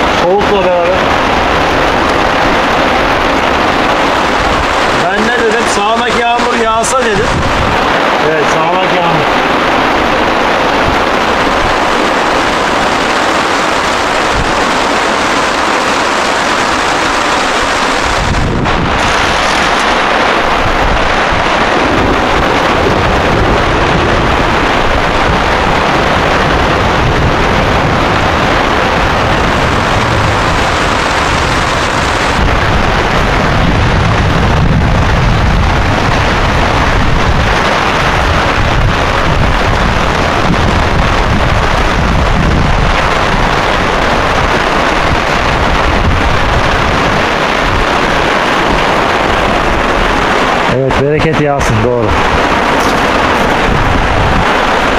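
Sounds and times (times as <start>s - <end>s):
deep rumble: 0.0s - 54.9s
heavy rain: 0.0s - 54.9s.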